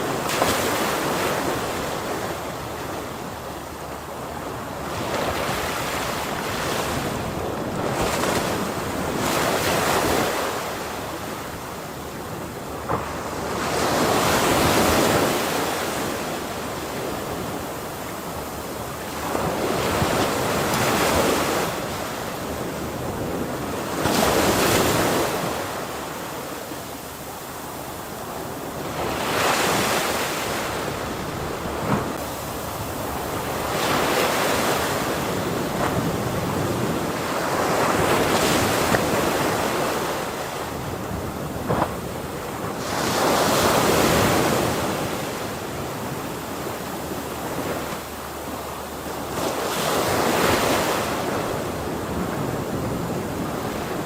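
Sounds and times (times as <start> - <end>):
ocean waves breaking: 0.0 - 54.0
wind noise on microphone: 0.0 - 54.0.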